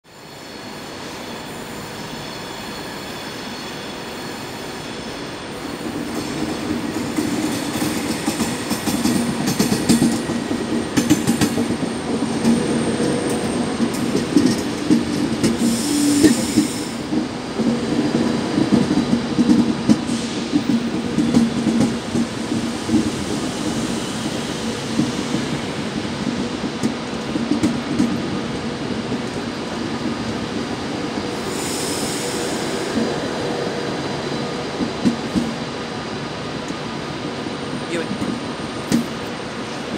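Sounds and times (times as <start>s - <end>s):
electric train passing slowly: 0.1s - 39.9s.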